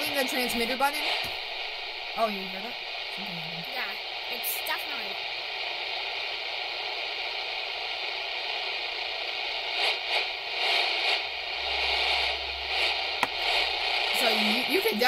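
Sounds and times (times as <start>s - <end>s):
low hum: 0.0s - 4.4s, 5.1s - 15.0s
radio static hiss: 0.0s - 15.0s.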